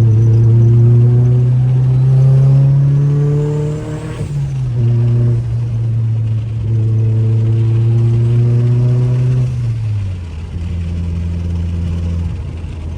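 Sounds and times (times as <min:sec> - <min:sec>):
car engine running while driving: 0:00.0 - 0:12.9.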